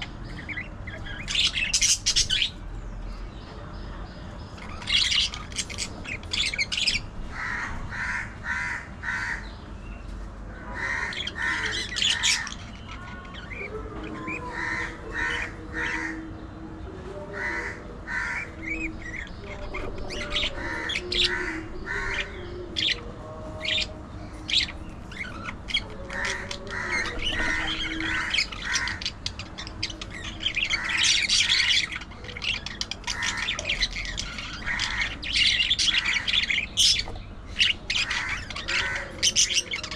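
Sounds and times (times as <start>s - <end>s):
budgerigars chattering and chirping: 0.0s - 16.6s, 17.3s - 39.9s.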